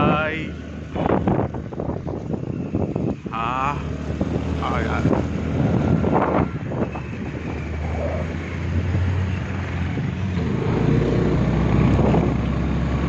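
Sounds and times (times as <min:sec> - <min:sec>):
road and air noise: 0:00.0 - 0:13.0
scooter engine humming: 0:00.0 - 0:13.0.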